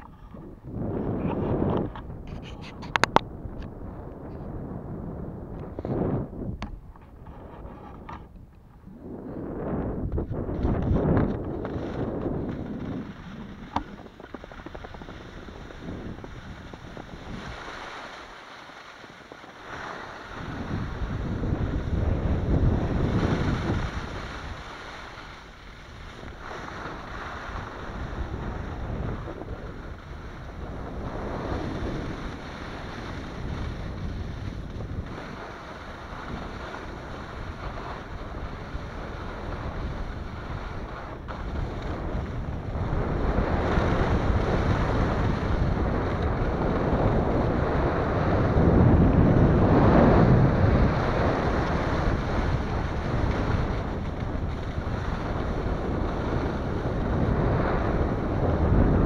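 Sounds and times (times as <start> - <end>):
wind on microphone: 0.0 - 59.0
skis scraping over snow: 5.6 - 59.0.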